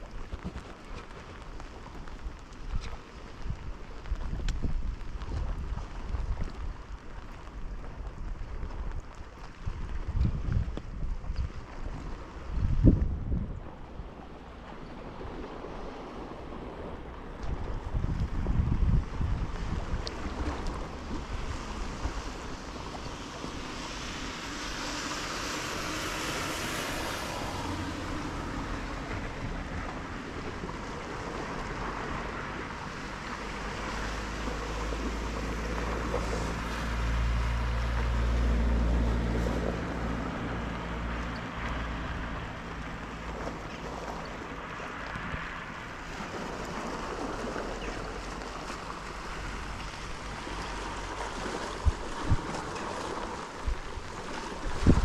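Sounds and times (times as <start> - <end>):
rain: 0.0 - 55.0
seawater: 0.0 - 55.0
wind: 0.0 - 55.0.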